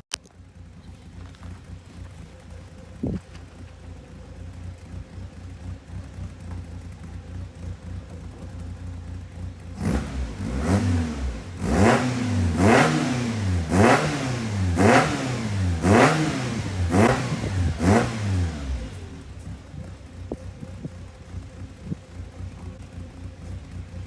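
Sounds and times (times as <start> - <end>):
car engine revving: 0.5 - 24.0.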